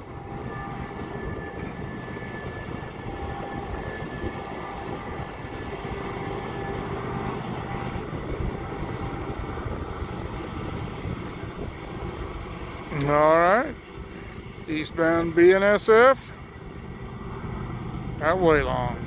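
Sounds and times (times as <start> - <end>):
diesel locomotives droning: 0.0 - 19.0.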